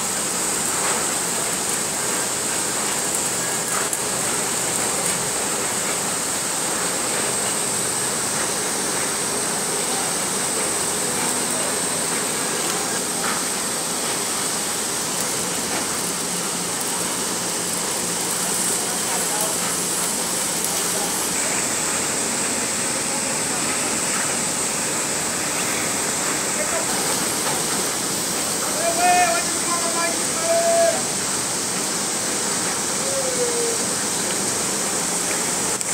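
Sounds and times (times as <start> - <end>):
industrial rushing hiss: 0.0 - 35.9.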